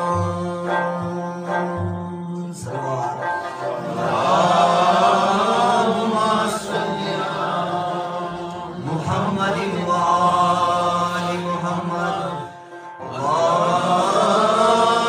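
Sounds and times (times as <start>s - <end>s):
men singing in chanting style: 0.0s - 15.0s
rubab playing: 0.0s - 15.0s.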